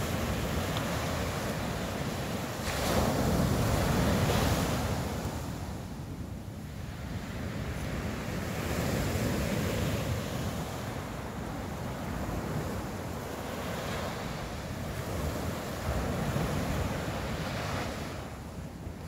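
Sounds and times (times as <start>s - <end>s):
sea surf washing ashore: 0.0s - 19.0s
wind rumbling on microphone: 0.0s - 19.0s.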